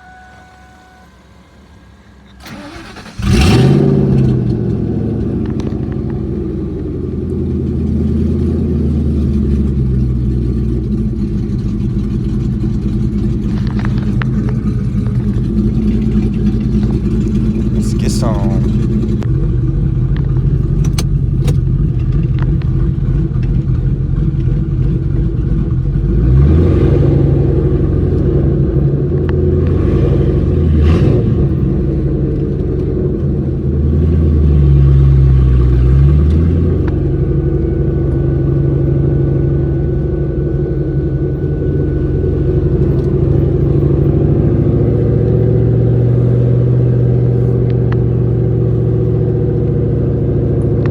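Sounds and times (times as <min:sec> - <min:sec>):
car engine revving while driving: 0:02.4 - 0:19.3, 0:20.7 - 0:50.9.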